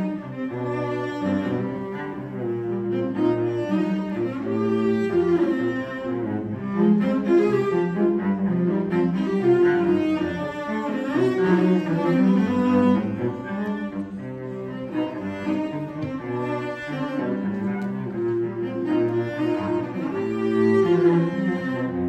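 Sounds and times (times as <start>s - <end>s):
cello duet: 0.0s - 22.0s.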